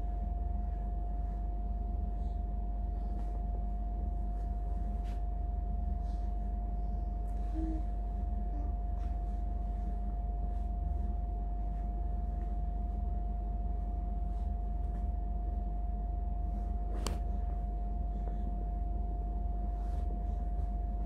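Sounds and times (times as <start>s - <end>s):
faint whine: 0.0s - 21.0s
low hum: 0.0s - 21.0s.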